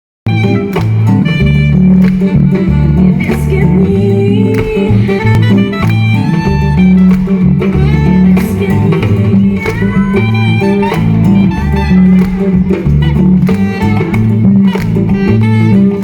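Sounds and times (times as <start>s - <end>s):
guitar melody: 0.3s - 16.0s
heavy bass line: 0.3s - 16.0s
live rock band playing: 0.3s - 16.0s
steady drum beat: 0.3s - 16.0s.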